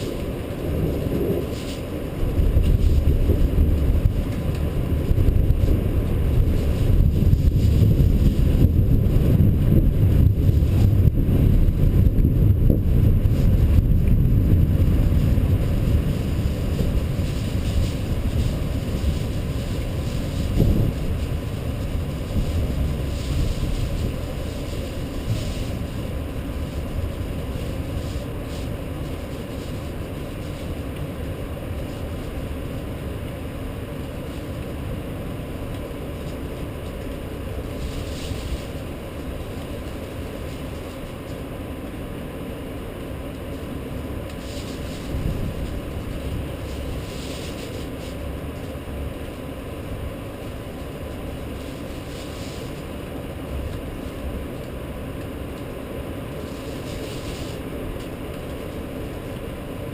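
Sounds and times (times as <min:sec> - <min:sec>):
rainstorm rumble and hiss: 0:00.0 - 0:59.9.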